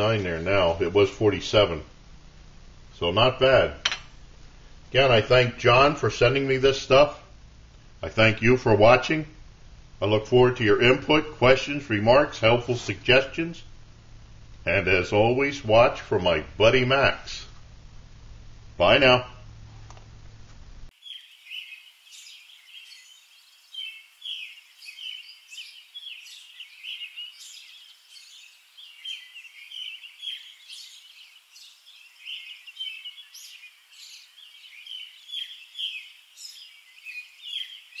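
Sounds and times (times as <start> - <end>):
songbirds chirping: 0.0 - 19.6, 20.9 - 38.0.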